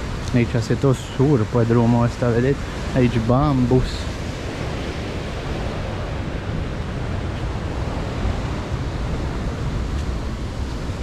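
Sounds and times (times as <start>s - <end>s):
surf breaking on shore: 0.0s - 11.0s
wind on microphone: 0.0s - 11.0s.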